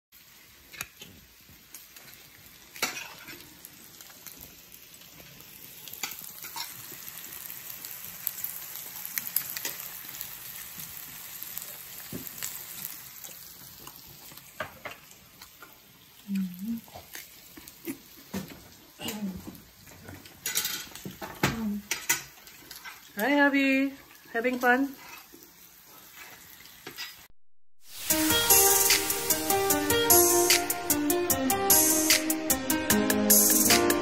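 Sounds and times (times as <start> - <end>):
meat sizzling on a grill pan: 0.2 - 31.0.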